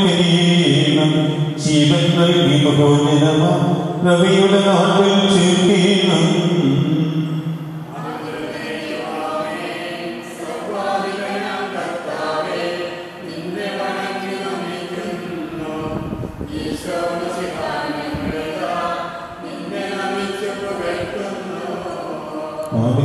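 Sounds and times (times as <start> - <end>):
group of voices singing: 3.4 - 23.0.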